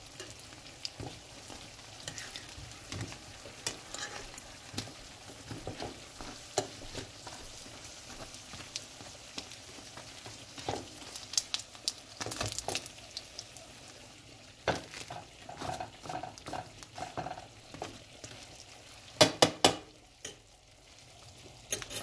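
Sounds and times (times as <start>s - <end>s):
dumplings sizzling in oil: 0.0s - 22.0s.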